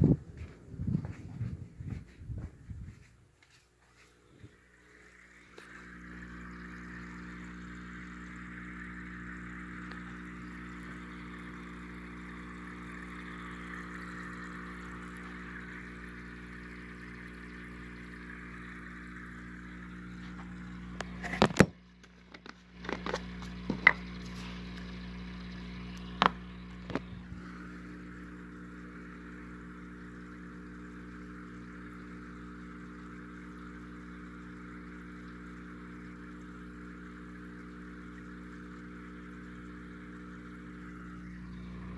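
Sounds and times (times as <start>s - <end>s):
electric hum: 0.0s - 3.4s, 4.0s - 41.9s
soft watery hiss: 3.4s - 41.9s.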